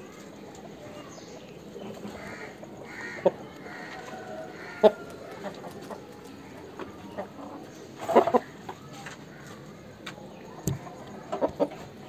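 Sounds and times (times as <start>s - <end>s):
birds calling sharp notes: 0.0s - 12.0s.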